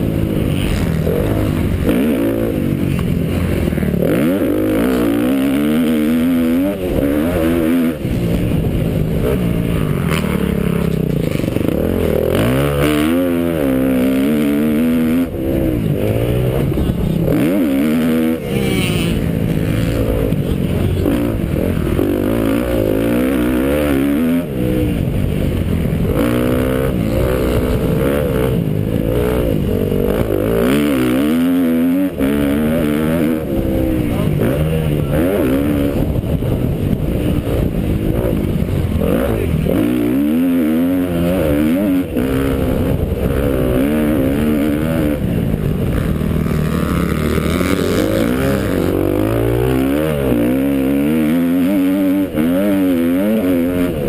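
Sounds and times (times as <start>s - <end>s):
motocross bike engine revving: 0.0s - 54.0s
wind noise: 0.0s - 54.0s.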